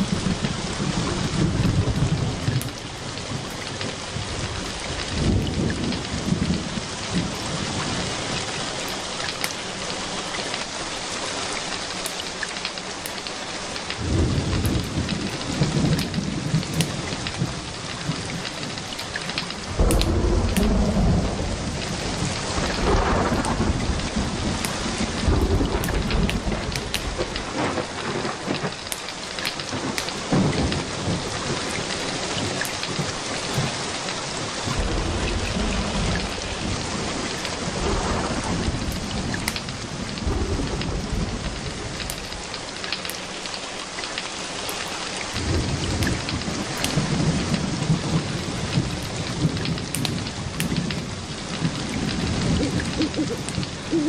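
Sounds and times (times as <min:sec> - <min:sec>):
low thunder rolling: 0:00.0 - 0:08.8, 0:14.0 - 0:28.8, 0:29.5 - 0:42.8, 0:45.3 - 0:54.0
steady rain: 0:00.0 - 0:54.0.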